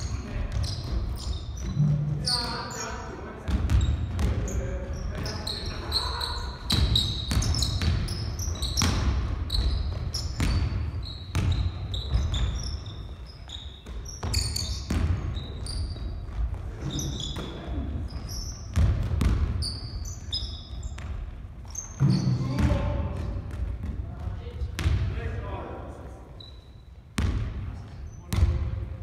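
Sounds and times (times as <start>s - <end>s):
sneakers squeaking: 0.0s - 25.4s, 26.0s - 29.0s.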